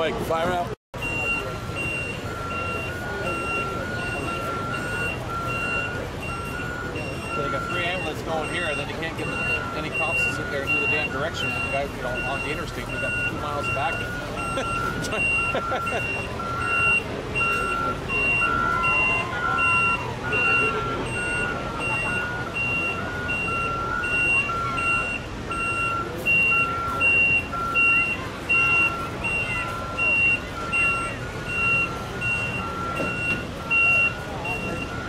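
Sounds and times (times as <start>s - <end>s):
vehicle engines running: 0.0s - 35.0s
backup alarms beeping: 0.3s - 35.0s.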